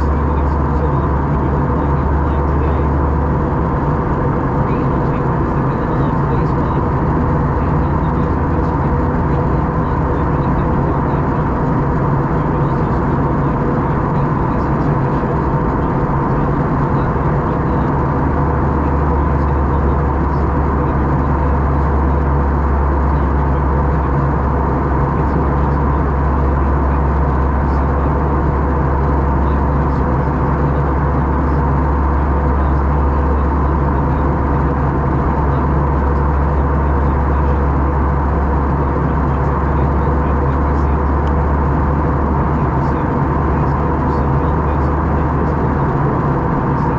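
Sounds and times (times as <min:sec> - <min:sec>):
constant hum: 0:00.0 - 0:46.9
deep low drone: 0:00.0 - 0:46.9
jet engine drone and airflow: 0:00.0 - 0:46.9.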